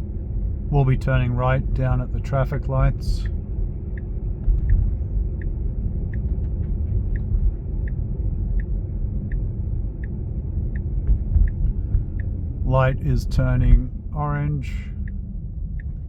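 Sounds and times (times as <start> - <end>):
road and tyre rumble: 0.0 - 16.0
turn signal ticking: 0.8 - 16.0.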